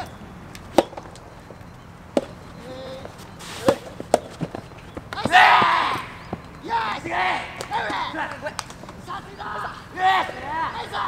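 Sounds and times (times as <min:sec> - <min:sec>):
rackets hitting tennis ball: 0:00.0 - 0:10.5.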